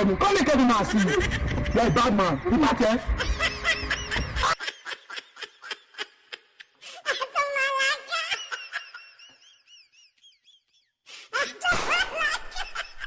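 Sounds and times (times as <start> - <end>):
person laughing: 0.7 - 13.0.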